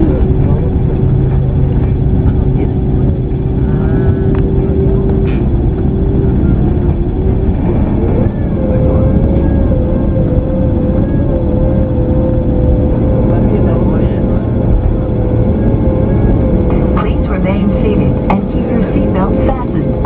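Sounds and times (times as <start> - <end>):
airplane cabin engine rumble: 0.0 - 20.0
engine whine: 0.0 - 20.0.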